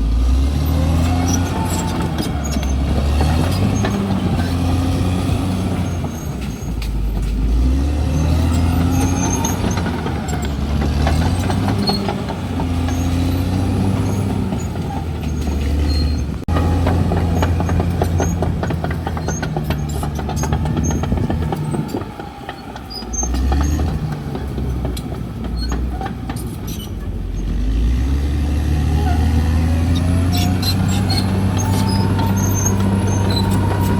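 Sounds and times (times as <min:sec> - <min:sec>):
bulldozer diesel engine working: 0:00.0 - 0:33.9.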